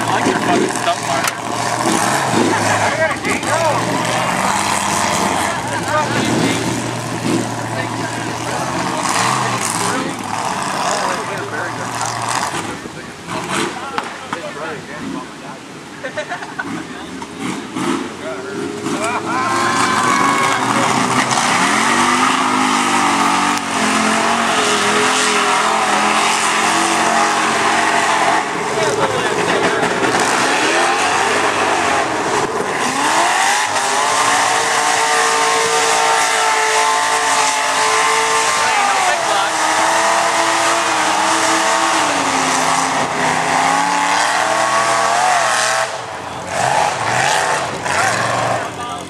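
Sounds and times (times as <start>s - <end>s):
rush of noise: 0.0s - 49.0s
truck engine revving: 0.0s - 49.0s.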